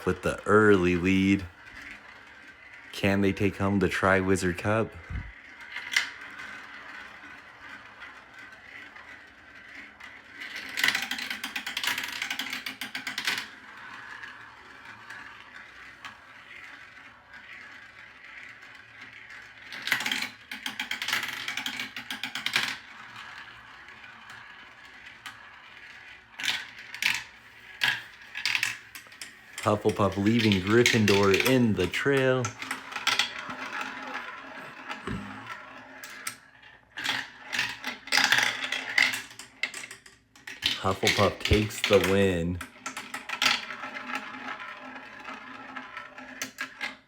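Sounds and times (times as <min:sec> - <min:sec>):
marbles rattling down a track: 0:00.0 - 0:47.0.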